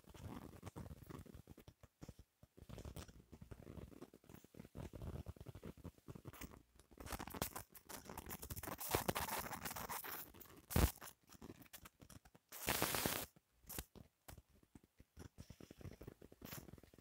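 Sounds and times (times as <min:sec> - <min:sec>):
scratching and rustling on microphone: 0:00.0 - 0:17.0.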